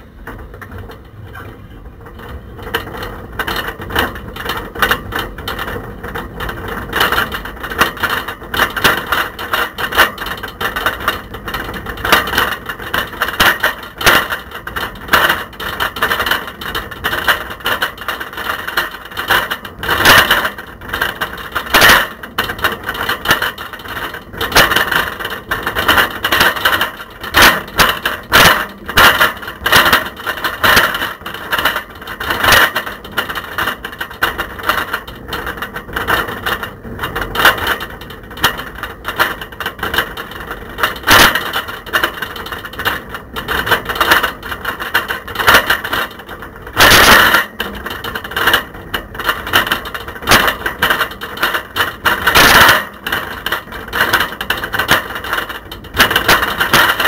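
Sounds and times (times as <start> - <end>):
camera rattling in bicycle basket: 0.0 - 57.0.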